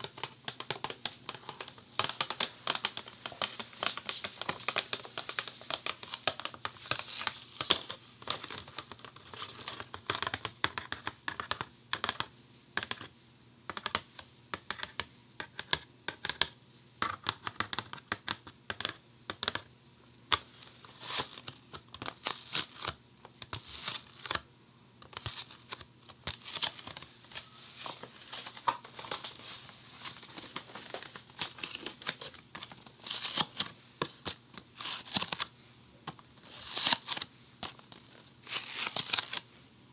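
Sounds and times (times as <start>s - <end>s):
tapping and scratching on foam: 0.0s - 13.1s, 13.7s - 19.7s, 25.0s - 35.5s, 36.1s - 39.4s.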